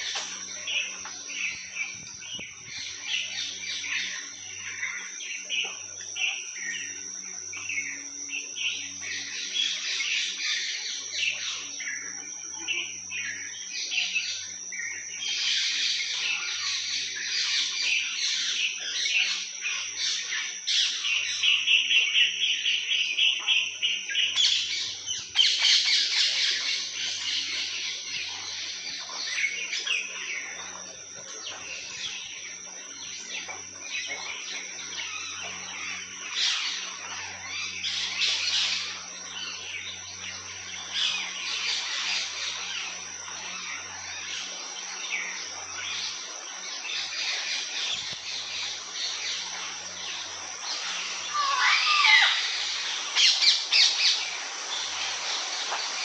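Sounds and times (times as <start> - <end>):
birds chirping and calling: 0.0 - 56.0
steady high-pitched whine: 0.0 - 56.0.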